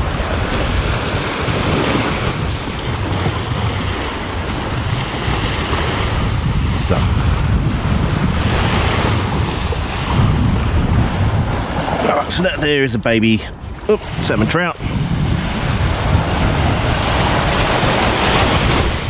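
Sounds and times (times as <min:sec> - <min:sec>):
small waves washing on beach: 0:00.0 - 0:19.0
wind rumbling on microphone: 0:00.0 - 0:19.0.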